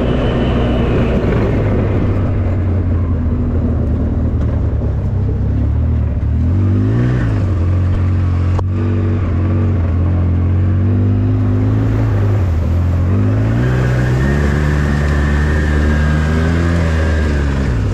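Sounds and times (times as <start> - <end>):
twin-cylinder engine running: 0.0 - 17.9.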